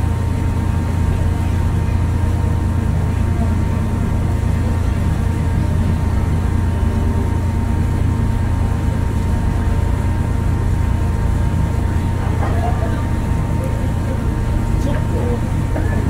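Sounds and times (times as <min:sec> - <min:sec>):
ferry engines droning: 0:00.0 - 0:16.0
thin steady whine: 0:00.0 - 0:16.0.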